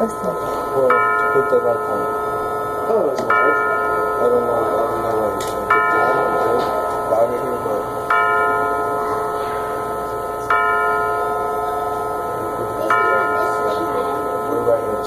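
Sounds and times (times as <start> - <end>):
clock chime striking: 0.0 - 15.0.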